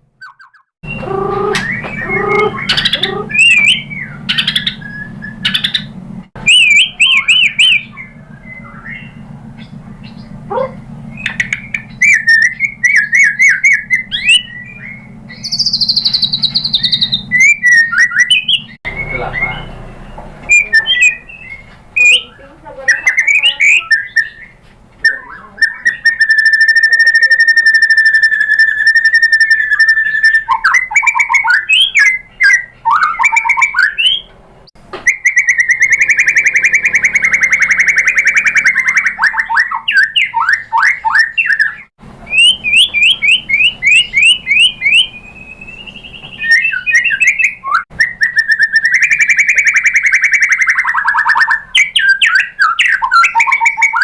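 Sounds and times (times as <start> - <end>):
songbird singing whistles and chatter: 0.2 - 34.3, 34.9 - 54.0.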